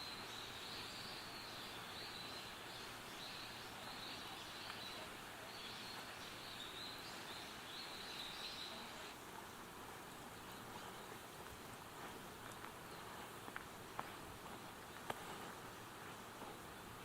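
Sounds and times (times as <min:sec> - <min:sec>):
soft outdoor hiss: 0:00.0 - 0:17.0.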